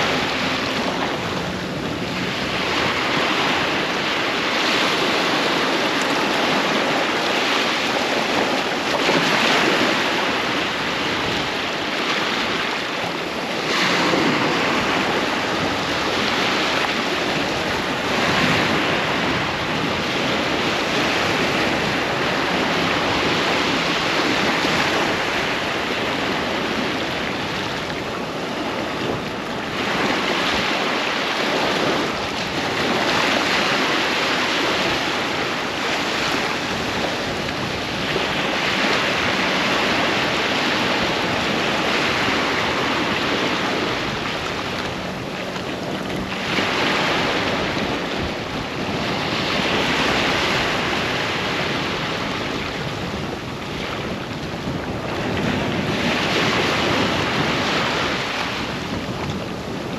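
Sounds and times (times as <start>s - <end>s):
ocean waves breaking on beach: 0.0s - 59.9s
wind: 0.0s - 59.9s.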